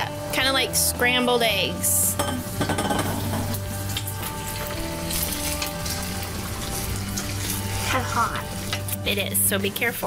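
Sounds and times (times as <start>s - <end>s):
egg sizzling in hot oil: 0.8s - 10.0s.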